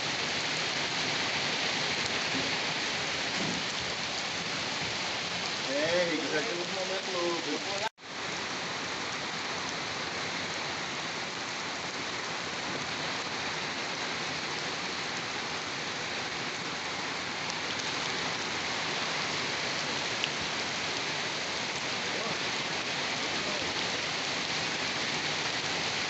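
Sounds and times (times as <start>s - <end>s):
steady rain pattering: 0.0s - 26.0s.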